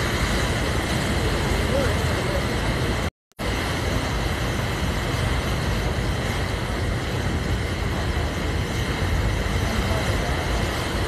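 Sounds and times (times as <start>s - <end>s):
boat running noise: 0.0s - 11.0s
wind buffeting microphone: 0.0s - 11.0s.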